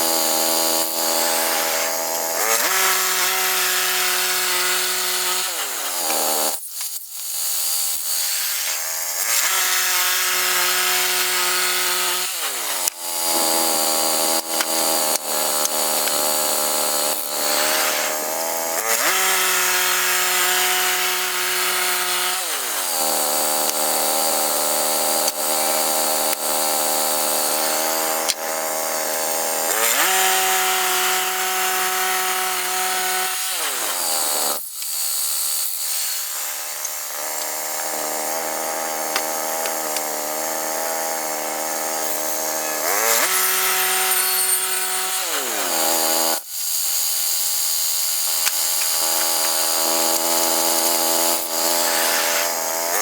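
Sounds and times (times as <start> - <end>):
band blade cutting log: 0.0 - 53.0
sawmill engine running: 8.4 - 46.4, 47.4 - 53.0.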